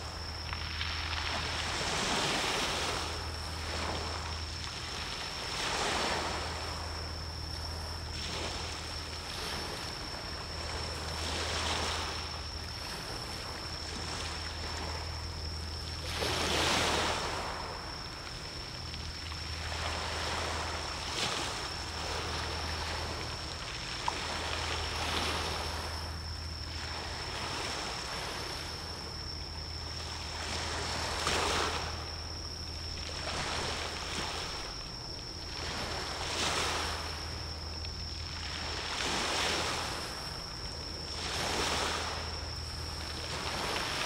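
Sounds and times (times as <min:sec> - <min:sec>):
small sea waves washing in: 0:00.0 - 0:44.0.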